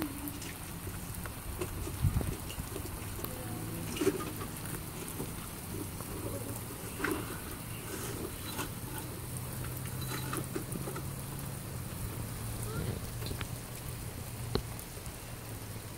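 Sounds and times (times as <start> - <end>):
rain falling on wet soil: 0.0 - 15.9.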